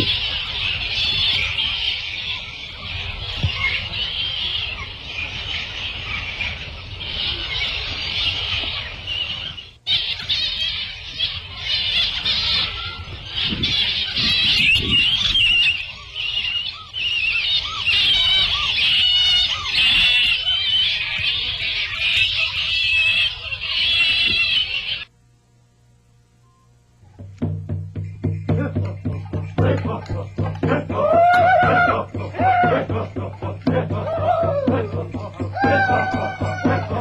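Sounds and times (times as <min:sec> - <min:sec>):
tropical bird calls: 0:00.0 - 0:25.1, 0:26.4 - 0:37.0.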